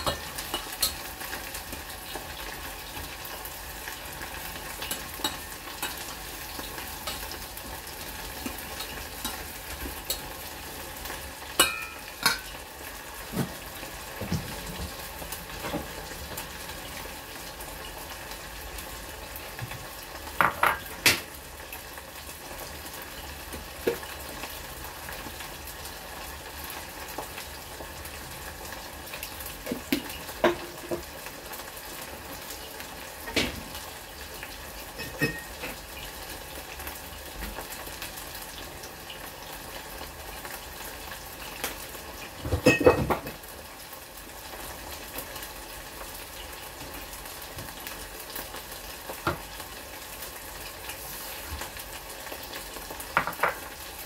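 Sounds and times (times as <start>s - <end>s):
ribs sizzling in oil: 0.0s - 54.0s.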